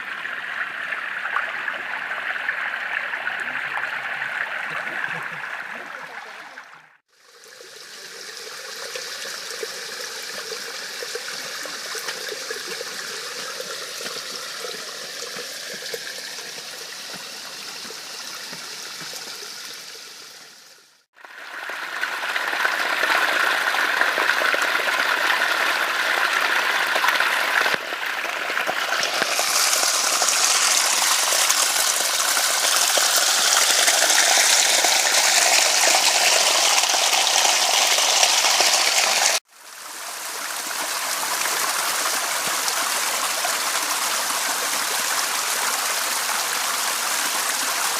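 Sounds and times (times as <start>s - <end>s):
water flowing: 0.0s - 47.9s
water rushing and splashing: 0.0s - 47.9s.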